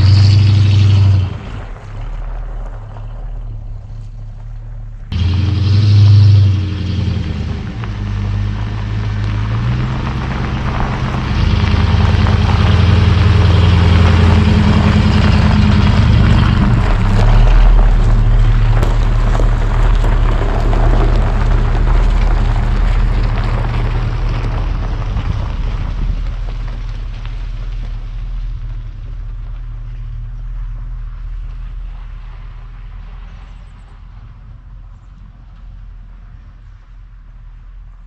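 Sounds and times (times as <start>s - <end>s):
motorhome engine rumble passing: 0.0s - 38.0s.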